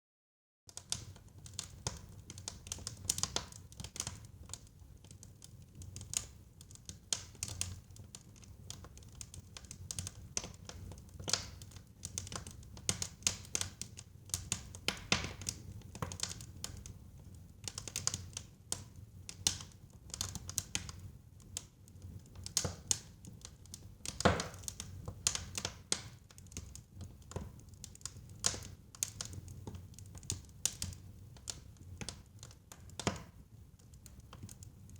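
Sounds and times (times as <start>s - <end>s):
wood fire crackling and popping: 0.7s - 34.9s.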